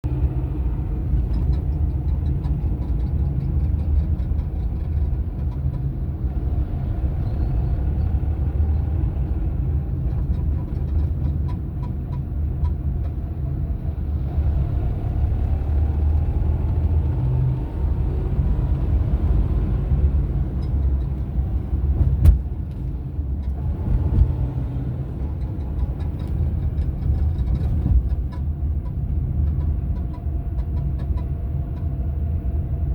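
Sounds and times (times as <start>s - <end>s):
vehicle engine rumbling: 0.0s - 32.9s.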